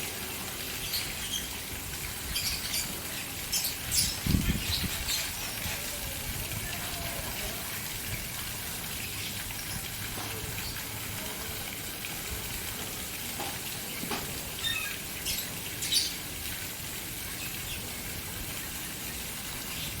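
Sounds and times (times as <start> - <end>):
water fountain splashing: 0.0 - 20.0.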